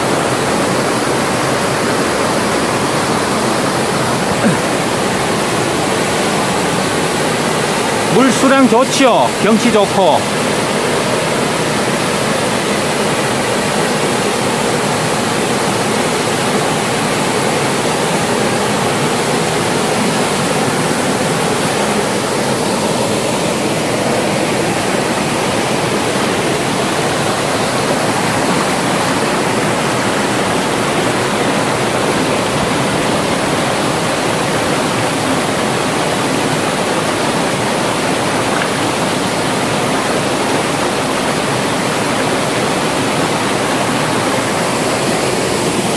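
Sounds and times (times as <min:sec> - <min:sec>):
stream pouring over waterfall: 0:00.0 - 0:45.9.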